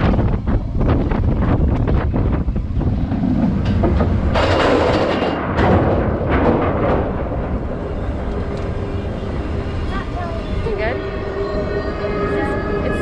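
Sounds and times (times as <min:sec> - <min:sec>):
roller coaster rumbling and clattering: 0:00.0 - 0:13.0.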